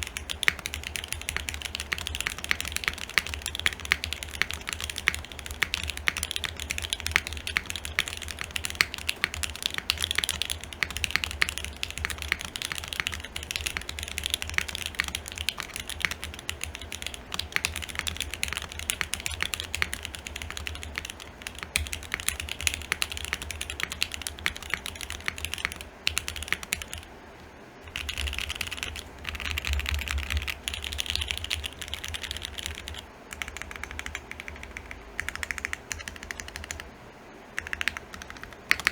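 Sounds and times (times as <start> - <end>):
mechanical keyboard typing: 0.0 - 37.0, 37.6 - 38.9.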